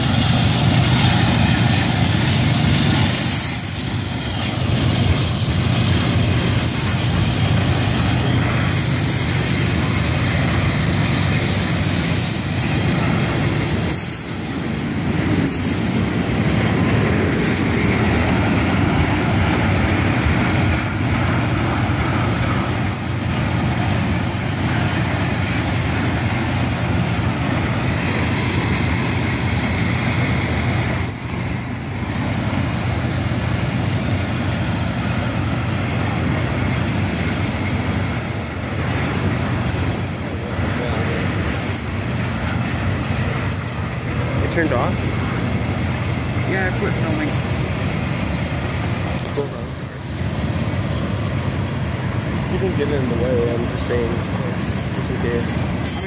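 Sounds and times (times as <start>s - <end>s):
train wheels clacking: 0.0s - 56.0s
train wheels rumbling on rails: 0.0s - 56.0s.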